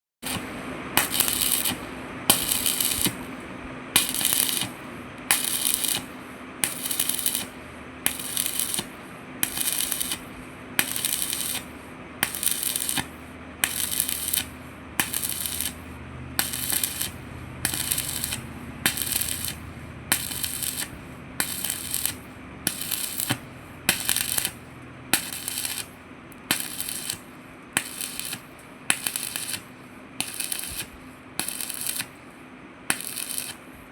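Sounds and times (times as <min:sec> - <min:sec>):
welding arc crackling: 0:00.2 - 0:32.2, 0:32.9 - 0:33.7
steady low hum: 0:00.2 - 0:33.9.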